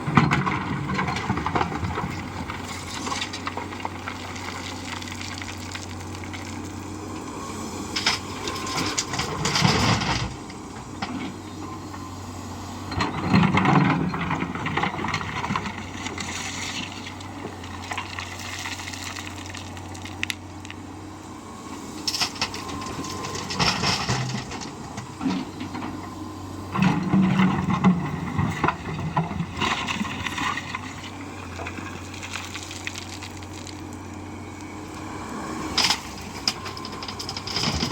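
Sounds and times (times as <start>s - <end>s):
low engine hum: 0.0s - 37.9s.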